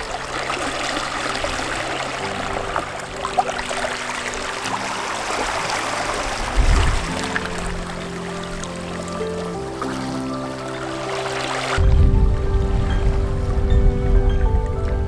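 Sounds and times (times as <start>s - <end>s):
moving water: 0.0s - 15.0s
soft background music: 0.0s - 15.0s.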